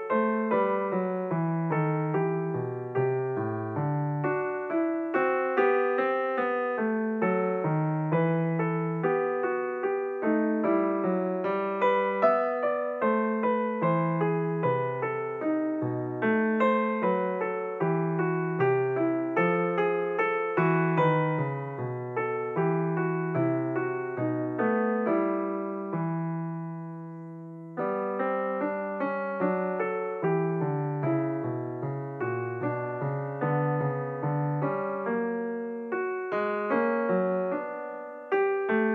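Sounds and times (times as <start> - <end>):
gentle piano music: 0.0 - 38.9.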